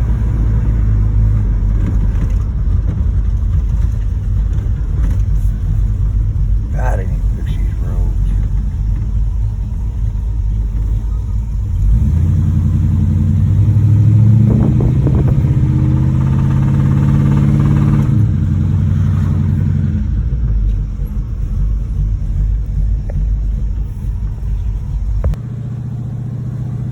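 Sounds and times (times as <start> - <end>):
car engine running while driving: 0.0 - 26.9.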